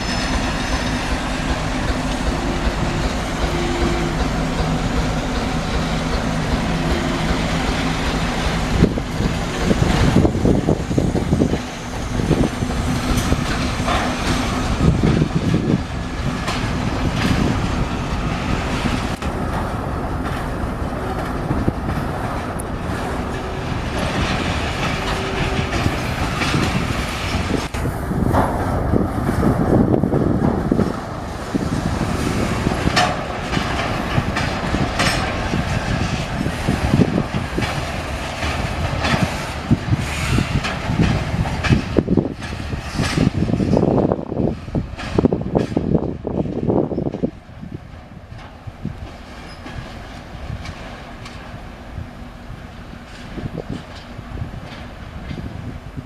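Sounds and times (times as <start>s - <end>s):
train wheels clacking on rail joints: 0.0s - 56.0s.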